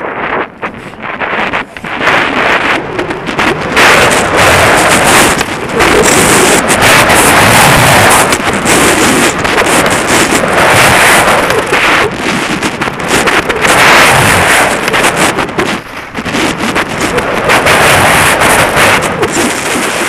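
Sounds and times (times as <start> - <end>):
skis carving on snow: 0.0 - 20.0
wind rushing over microphone: 0.0 - 20.0.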